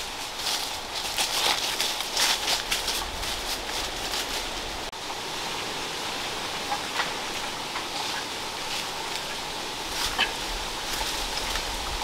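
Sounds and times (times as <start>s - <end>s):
forest ambience hiss: 0.0s - 12.0s.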